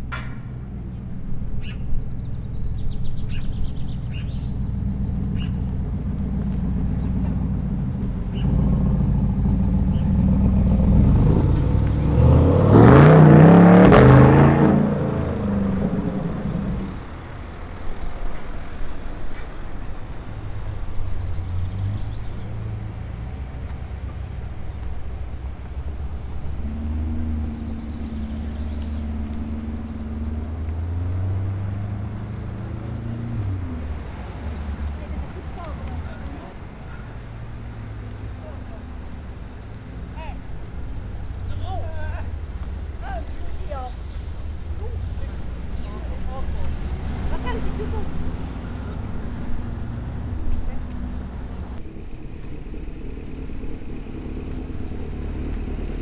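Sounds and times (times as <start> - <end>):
car engines running: 0.0 - 56.0
car accelerating hard: 4.1 - 18.0, 20.4 - 56.0.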